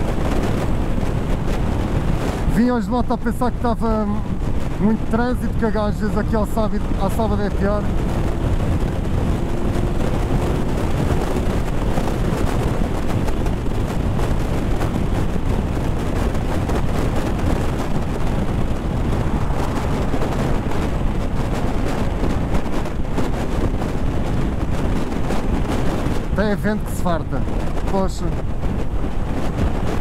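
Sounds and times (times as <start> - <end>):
motorcycle running: 0.0 - 30.0
road noise: 0.0 - 30.0
wind buffeting microphone: 0.0 - 30.0.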